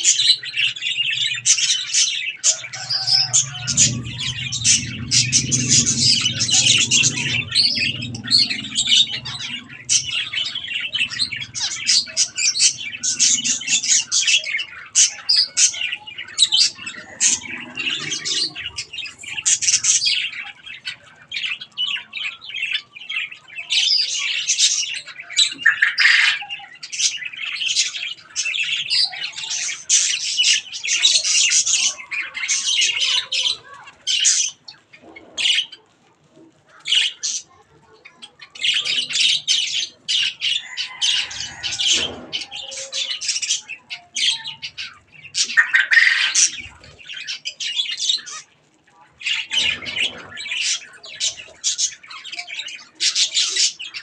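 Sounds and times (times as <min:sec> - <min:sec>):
finches chattering: 0:00.0 - 0:35.9, 0:36.7 - 0:54.0.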